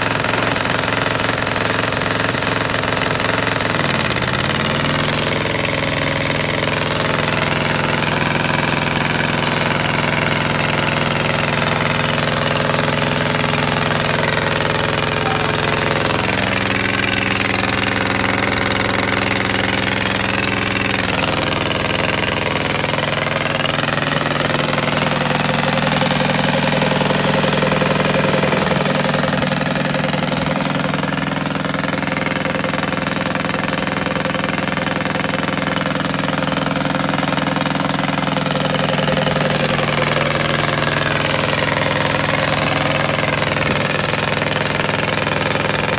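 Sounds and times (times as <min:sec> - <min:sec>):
small engine knocking rattly: 0:00.0 - 0:45.9.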